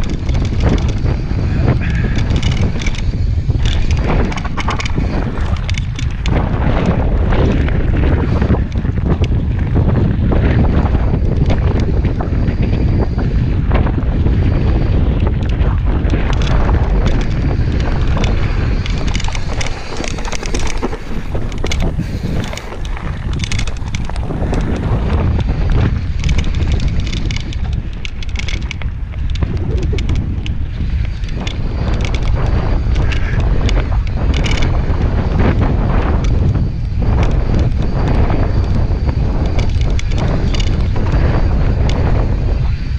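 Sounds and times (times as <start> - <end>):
bike clicks and rattles: 0.0 - 42.9
tyres rumbling over dirt trail: 0.0 - 42.9
wind buffeting microphone: 0.0 - 42.9.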